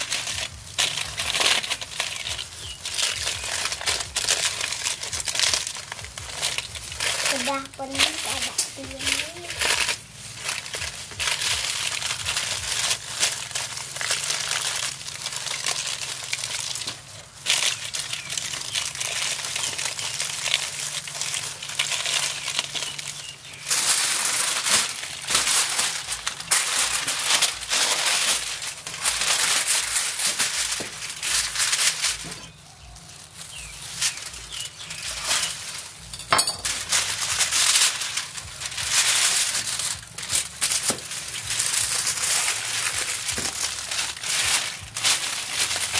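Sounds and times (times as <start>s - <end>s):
aluminium foil crinkling: 0.0s - 45.9s.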